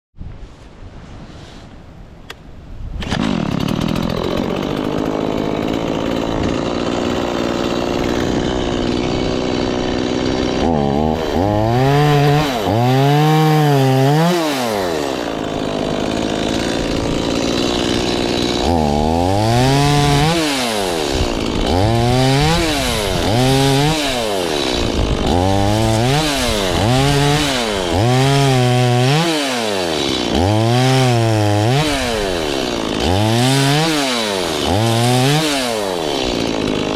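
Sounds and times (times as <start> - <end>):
chainsaw engine revving: 3.0 - 36.9.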